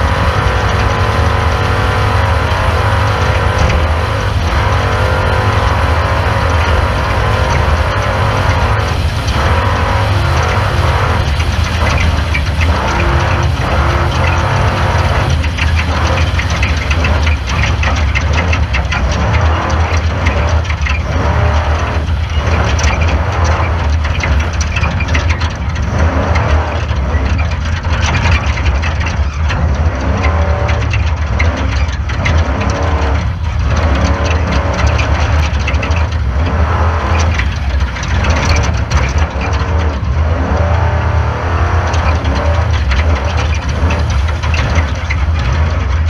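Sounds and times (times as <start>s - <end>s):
knocks and rattles: 0.0s - 46.0s
race car engine revving: 0.0s - 46.0s.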